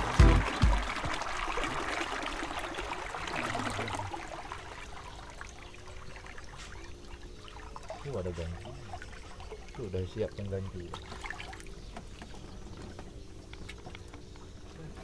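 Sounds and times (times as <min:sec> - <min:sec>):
water splashing along boat hull: 0:00.0 - 0:15.0.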